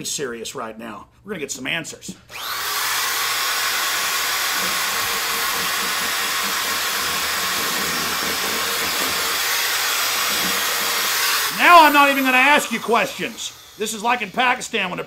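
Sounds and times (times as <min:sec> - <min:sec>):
electric drill boring: 0:02.3 - 0:14.8.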